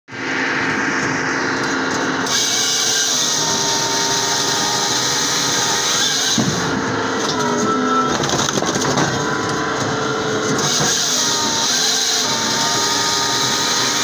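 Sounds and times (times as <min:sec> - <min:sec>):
saw-splitter machine humming: 0:00.1 - 0:14.0.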